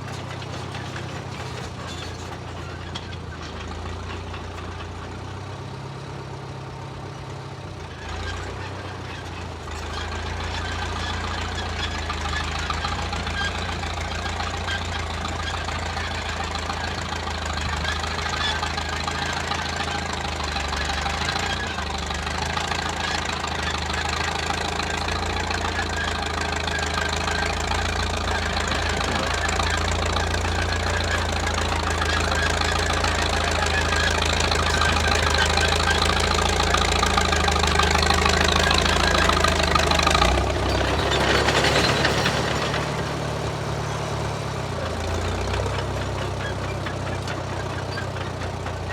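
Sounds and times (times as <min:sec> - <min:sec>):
bulldozer engine running: 0:00.0 - 0:48.9.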